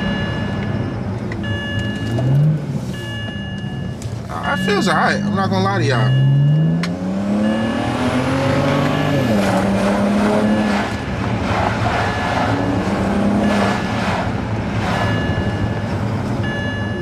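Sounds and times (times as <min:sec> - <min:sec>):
car engine accelerating: 0:00.0 - 0:17.0
tyre and road noise: 0:00.0 - 0:17.0.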